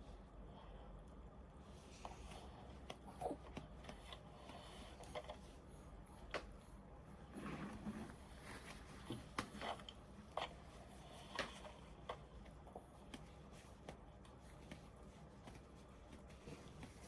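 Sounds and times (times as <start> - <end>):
soft rustle of movement: 0.0 - 17.0.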